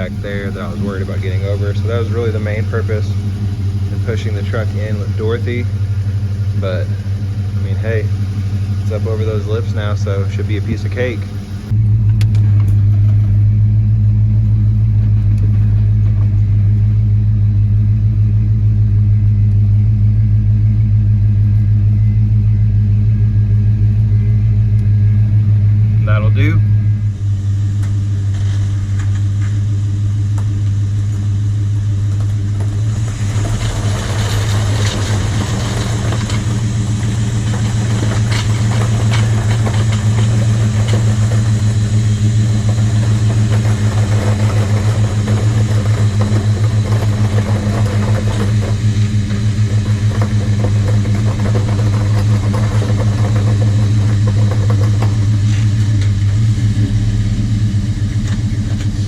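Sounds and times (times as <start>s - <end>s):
pressure washer motor hum: 0.0s - 17.7s, 24.2s - 59.0s.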